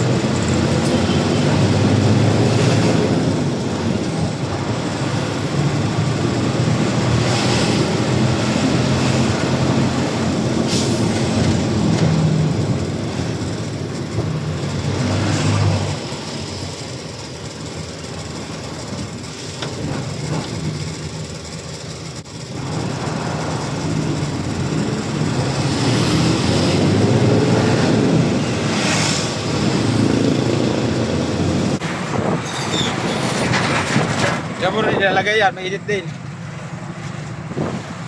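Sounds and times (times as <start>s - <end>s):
road noise: 0.0s - 38.0s
truck engine running: 0.0s - 38.0s.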